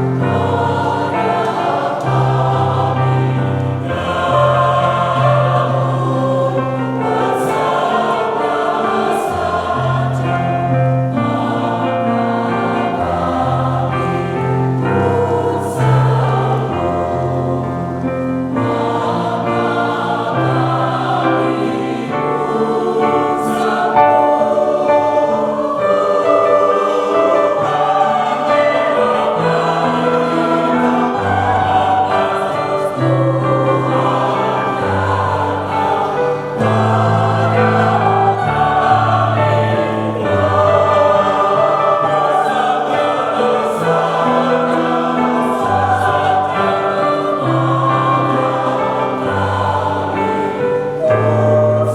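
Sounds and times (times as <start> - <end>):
choir singing a hymn: 0.0 - 51.9.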